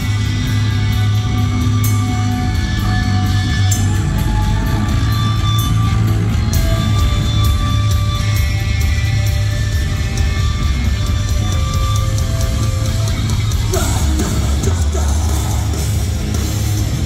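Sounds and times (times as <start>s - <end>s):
live hardcore band playing: 0.0s - 17.0s.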